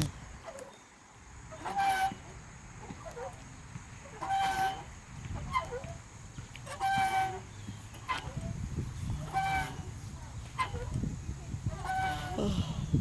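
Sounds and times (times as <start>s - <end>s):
faint swing creaks: 0.0s - 13.0s
swing squeaking: 0.0s - 13.0s.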